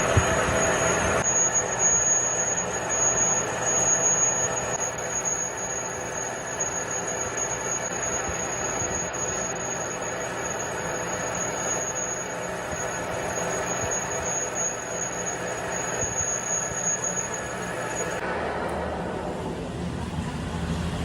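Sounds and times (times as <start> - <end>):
high squeal: 0.0 - 18.3
steady machine noise: 0.0 - 21.0.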